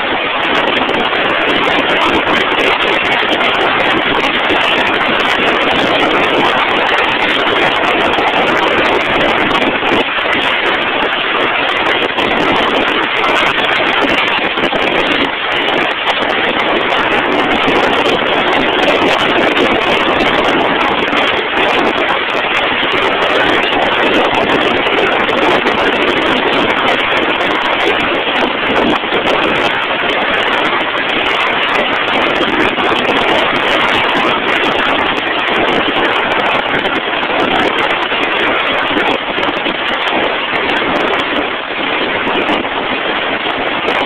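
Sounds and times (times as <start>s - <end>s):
loud mechanical noise: 0.0s - 44.0s.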